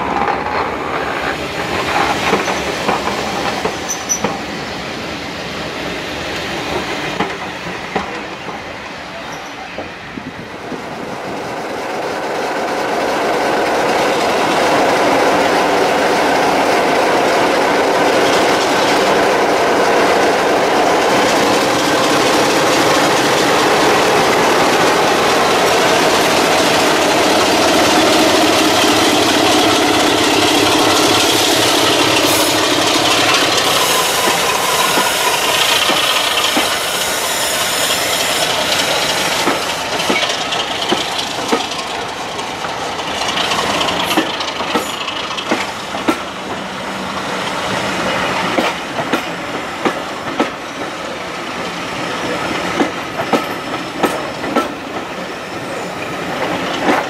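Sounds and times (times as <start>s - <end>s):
train wheels clattering over rail joints: 0.0s - 4.5s, 11.9s - 51.0s, 52.2s - 55.3s, 56.3s - 57.0s
diesel locomotive engine: 0.0s - 57.0s.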